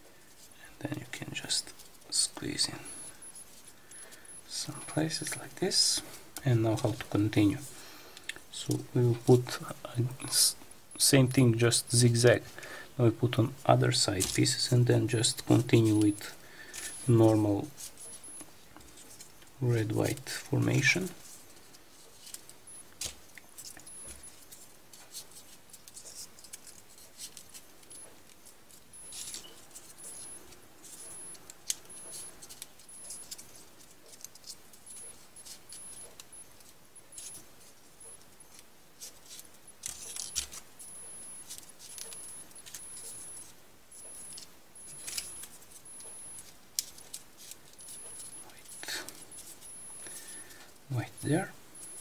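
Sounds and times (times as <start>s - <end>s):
paper modules rustling and clicking: 0.1s - 52.0s.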